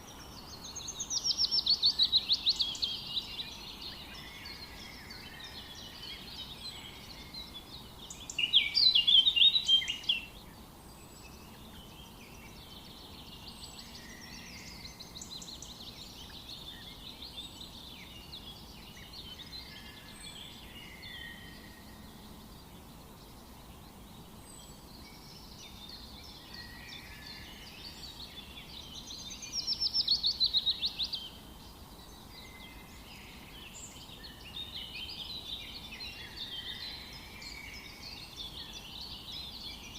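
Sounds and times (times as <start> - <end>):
background hiss: 0.0 - 39.9
songbirds singing and chirping: 0.0 - 39.9.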